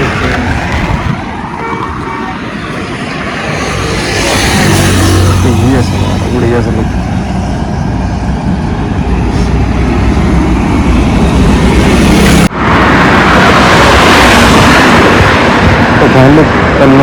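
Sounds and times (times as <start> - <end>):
motorcycle road and engine noise: 0.0 - 17.0
wind rushing over microphone: 0.0 - 17.0.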